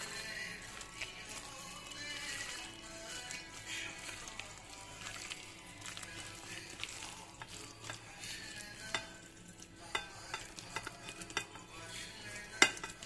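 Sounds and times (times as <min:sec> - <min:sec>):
wet squelching of food: 0:00.0 - 0:13.0.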